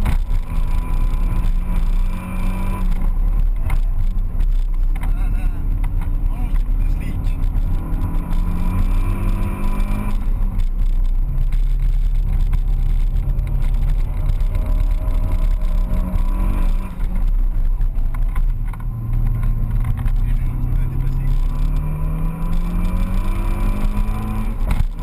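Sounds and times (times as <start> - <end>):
car engine from inside cabin: 0.0 - 25.0
road and wind noise: 0.0 - 25.0.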